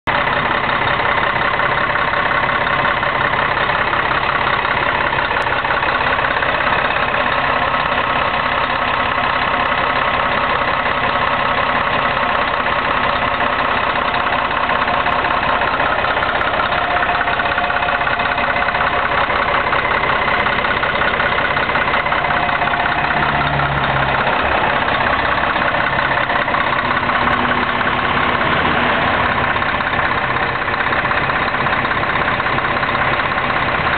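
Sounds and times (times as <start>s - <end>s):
bus diesel engine droning: 0.0s - 33.9s.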